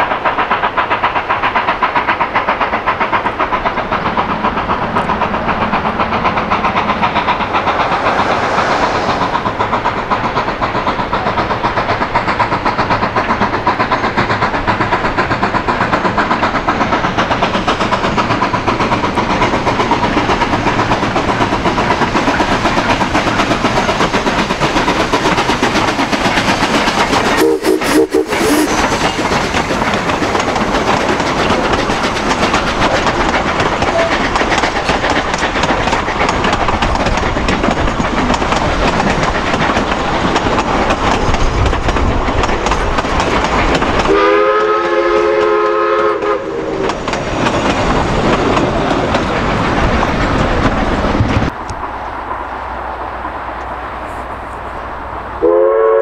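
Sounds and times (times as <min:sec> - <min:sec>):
wheels clicking over rails: 0:00.0 - 0:51.9
train rumbling: 0:00.0 - 0:56.0.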